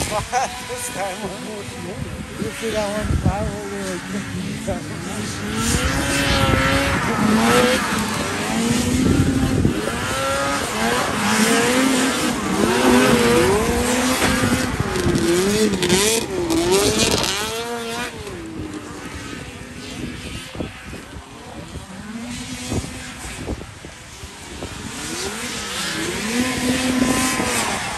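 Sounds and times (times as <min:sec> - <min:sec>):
snowmobile engines racing: 0:00.0 - 0:27.9.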